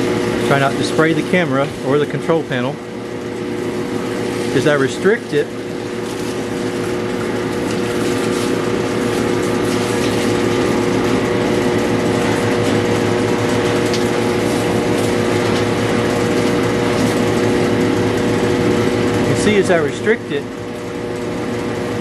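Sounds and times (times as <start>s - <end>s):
pressure washer pump running: 0.0s - 22.0s.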